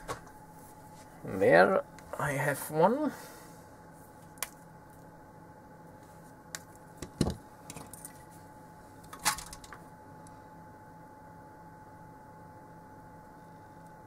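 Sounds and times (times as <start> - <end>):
fume extractor hum and whine: 0.0 - 14.0.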